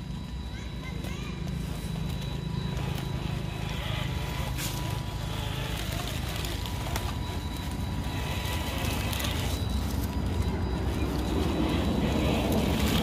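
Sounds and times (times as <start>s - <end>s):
electric motor running: 1.0s - 13.0s.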